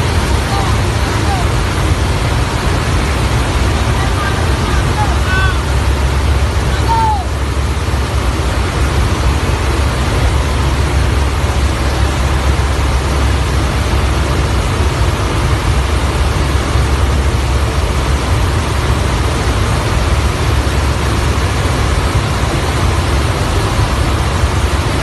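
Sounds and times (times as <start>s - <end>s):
aircraft engines droning: 0.0s - 25.0s.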